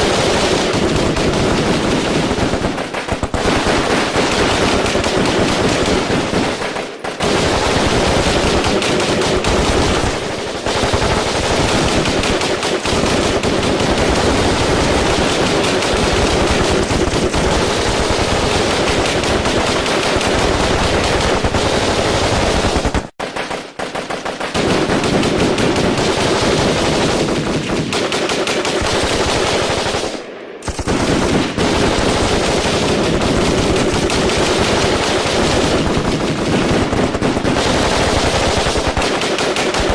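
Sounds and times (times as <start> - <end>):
automatic gunfire bursts: 0.0 - 39.9.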